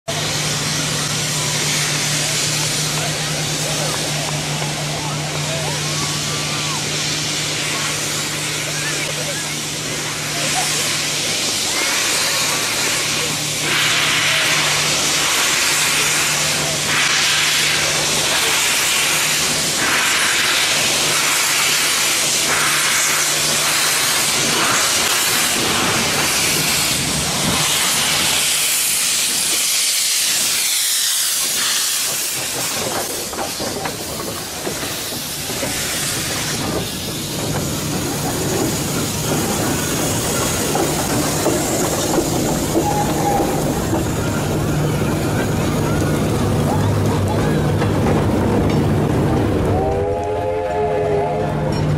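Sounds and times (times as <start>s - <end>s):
loud steady hiss: 0.1s - 51.6s.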